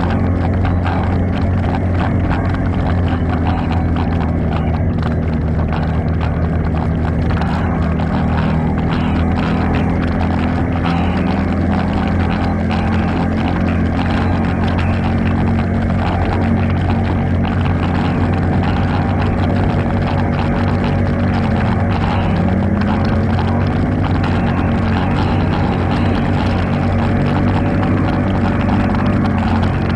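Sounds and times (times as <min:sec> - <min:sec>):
atv engine running: 0:00.0 - 0:29.9.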